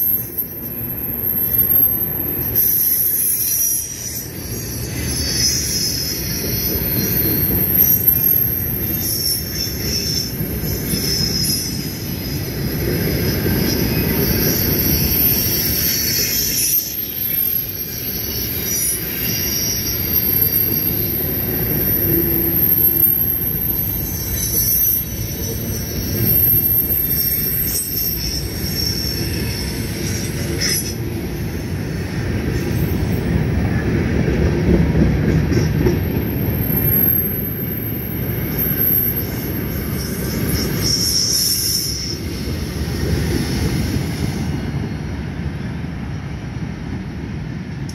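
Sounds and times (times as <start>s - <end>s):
high-pitched wheel squeal: 0.0s - 45.4s
train wheels rumbling on rail: 0.0s - 47.9s.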